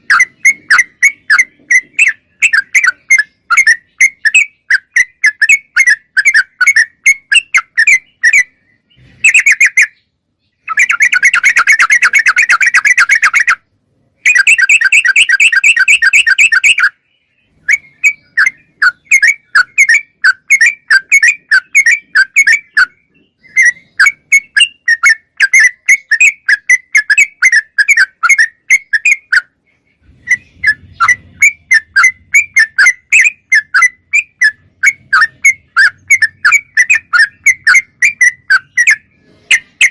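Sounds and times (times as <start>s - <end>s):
bird chattering: 0.0s - 13.6s, 14.2s - 39.9s
bird whistled chirps: 0.0s - 13.6s, 14.2s - 39.9s.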